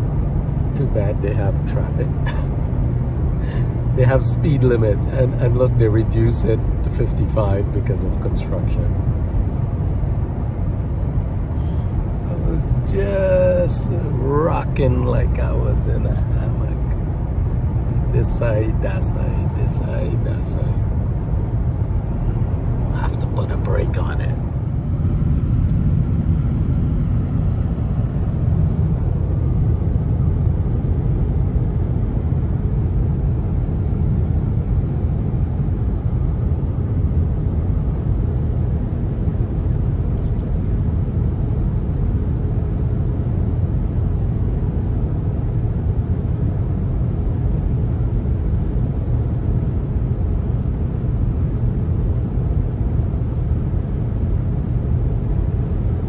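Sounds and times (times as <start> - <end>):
car engine noise: 0.0 - 56.0
road and tyre rumble: 0.0 - 56.0.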